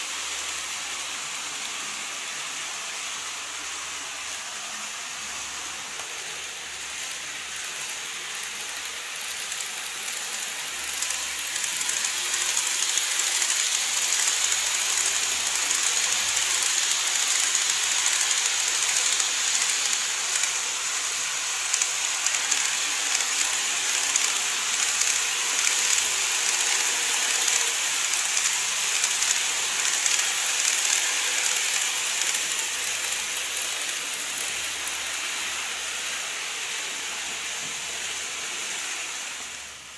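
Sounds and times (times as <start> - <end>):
model trains running on track: 0.0 - 39.9.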